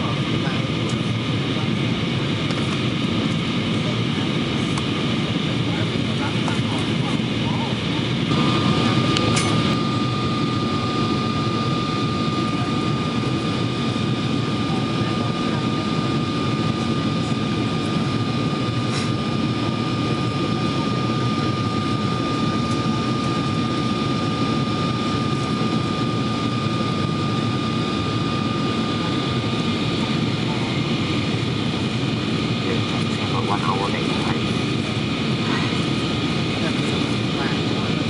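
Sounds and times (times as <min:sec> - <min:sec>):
airflow and jet engine rumble: 0:00.0 - 0:38.0
constant high whine: 0:00.0 - 0:38.0.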